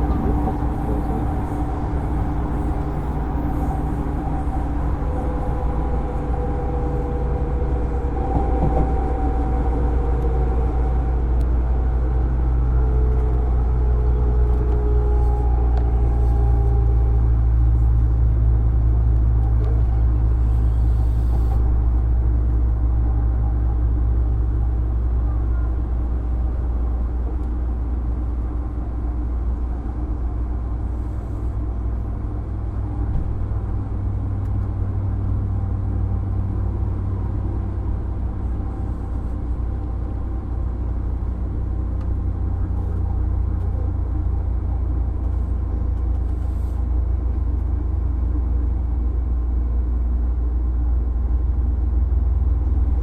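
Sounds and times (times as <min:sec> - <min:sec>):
wheels rumbling on rail: 0:00.0 - 0:53.0.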